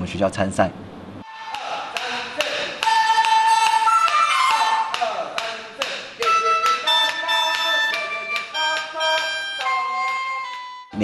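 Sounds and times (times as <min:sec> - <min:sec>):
bamboo flute and mouth organ tune: 0:01.2 - 0:11.0.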